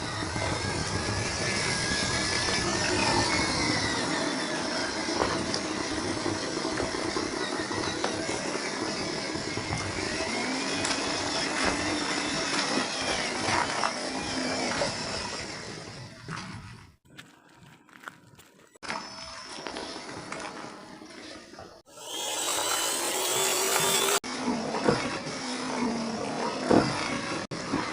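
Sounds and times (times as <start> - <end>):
rc car motor whining: 0.0 - 16.9, 18.8 - 27.9.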